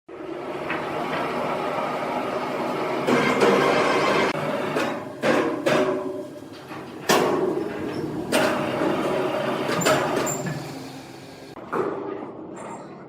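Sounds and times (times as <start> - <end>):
steady mechanical hum: 0.1 - 11.8.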